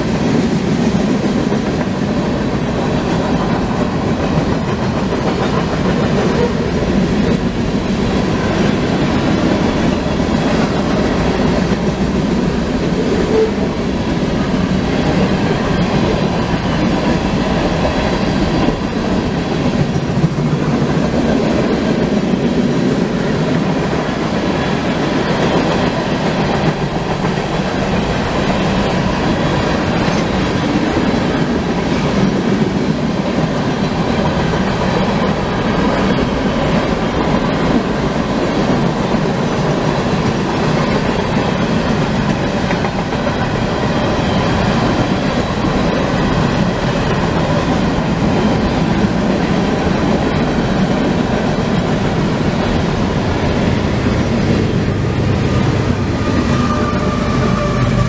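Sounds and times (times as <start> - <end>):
freight train wheels rumbling: 0.0 - 58.0
wheels clacking over rail joints: 0.0 - 58.0.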